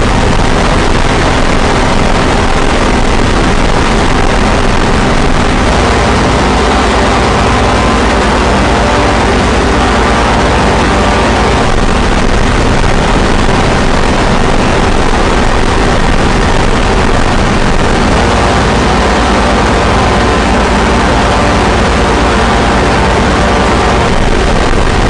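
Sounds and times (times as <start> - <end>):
distorted noise music: 0.0 - 25.0
low droning hum: 0.0 - 25.0.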